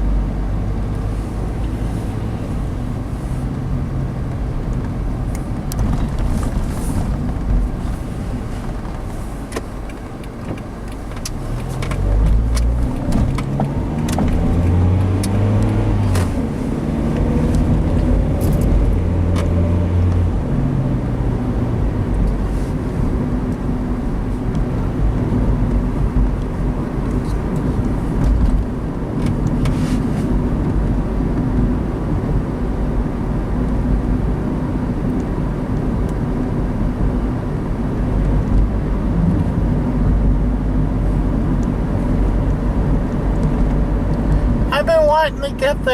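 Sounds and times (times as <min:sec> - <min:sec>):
car engine accelerating: 0:00.0 - 0:45.9
road noise: 0:00.0 - 0:45.9.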